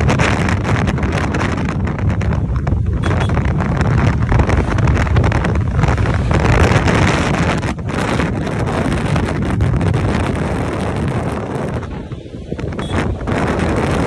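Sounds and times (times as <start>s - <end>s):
motorcycle riding noise: 0.0s - 14.0s
wind buffeting microphone: 0.0s - 14.0s.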